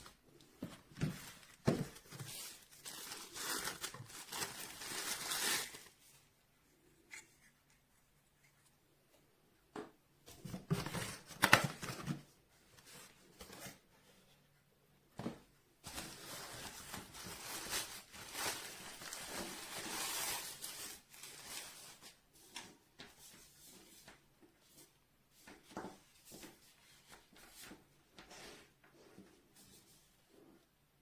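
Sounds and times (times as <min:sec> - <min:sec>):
rustling and handling noises: 0:00.0 - 0:09.4, 0:10.2 - 0:31.0.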